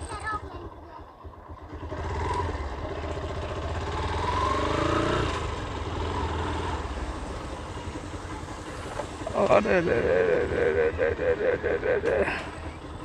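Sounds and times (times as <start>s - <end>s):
vehicle engine pulling away: 1.5s - 13.0s.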